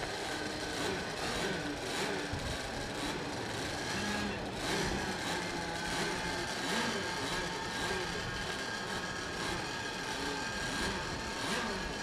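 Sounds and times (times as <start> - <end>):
model boat engines whining: 0.0 - 12.0.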